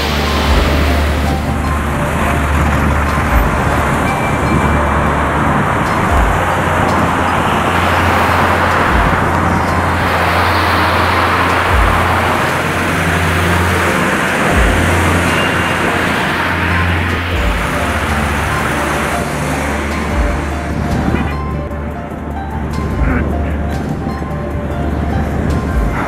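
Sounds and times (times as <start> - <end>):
car traffic passing: 0.0 - 26.0
low rumble: 0.0 - 26.0
road noise: 0.0 - 26.0
wind rush: 0.0 - 26.0.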